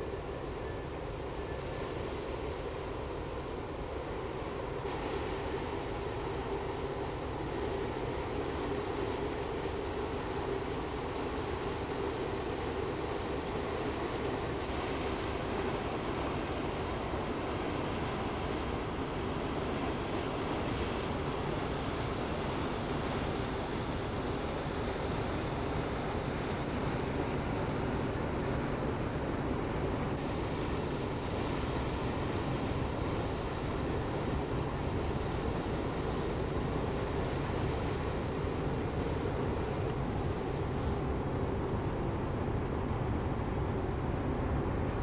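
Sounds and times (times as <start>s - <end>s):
ship engine low rumble: 0.0s - 45.0s.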